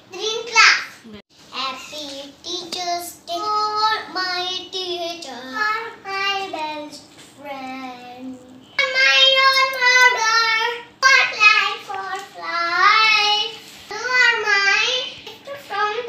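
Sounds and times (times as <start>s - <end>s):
young boy singing: 1.5s - 16.0s.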